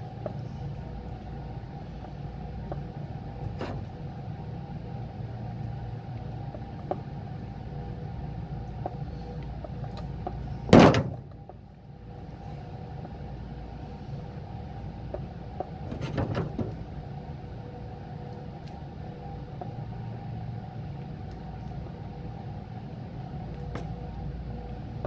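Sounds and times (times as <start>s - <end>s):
hvac unit humming: 0.0s - 25.0s.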